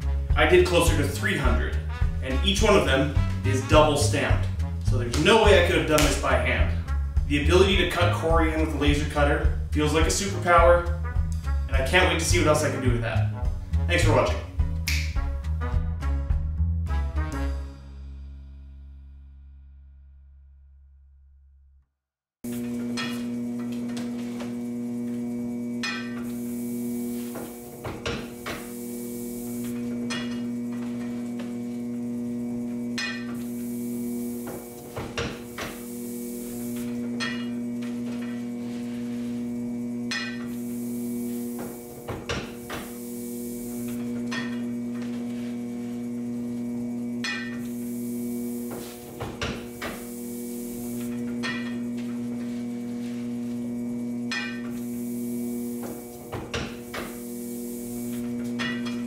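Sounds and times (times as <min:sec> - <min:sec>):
steady mechanical hum: 0:00.0 - 0:15.2, 0:22.5 - 0:59.0.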